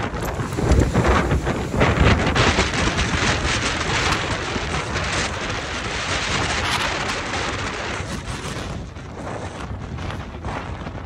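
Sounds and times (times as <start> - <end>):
gale-force wind buffeting microphone: 0.0 - 11.0.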